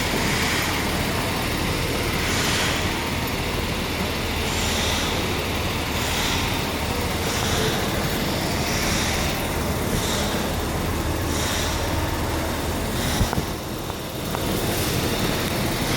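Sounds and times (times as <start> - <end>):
car engine misfiring: 0.0 - 15.9.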